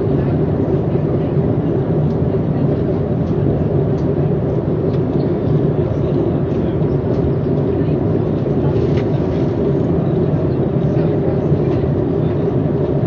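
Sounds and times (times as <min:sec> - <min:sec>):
airliner cabin engine and airflow noise: 0:00.0 - 0:13.0.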